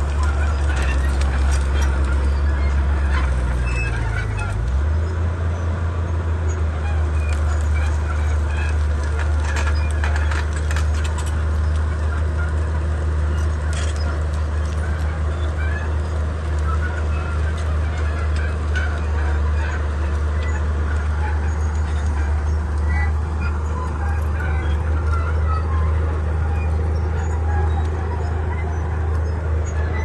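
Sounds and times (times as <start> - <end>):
bulldozer diesel engine running: 0.0 - 30.0
track squeaks and clicks: 0.0 - 30.0.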